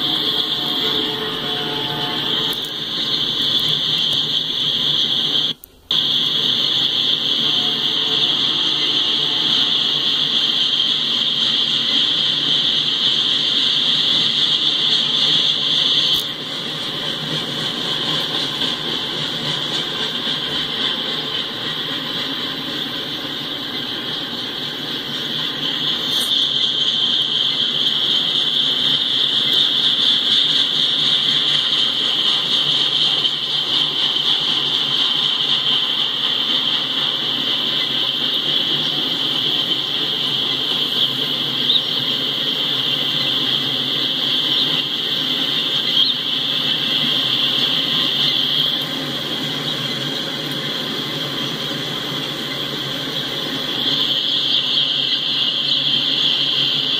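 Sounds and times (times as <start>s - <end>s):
freight cars rumbling: 0.0s - 56.9s
metallic wheel squeal on rails: 0.0s - 56.9s.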